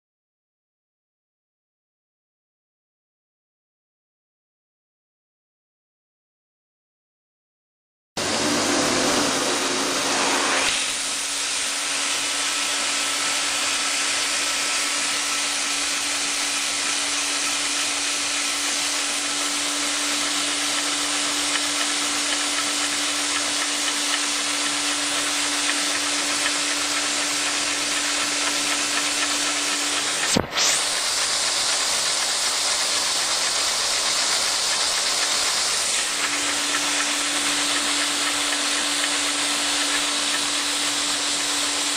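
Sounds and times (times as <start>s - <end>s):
vacuum engine air rush and hum: 8.2s - 41.9s.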